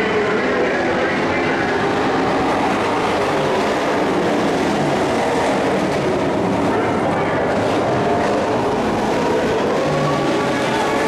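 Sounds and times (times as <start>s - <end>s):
racing truck engines rumbling: 0.0s - 11.0s.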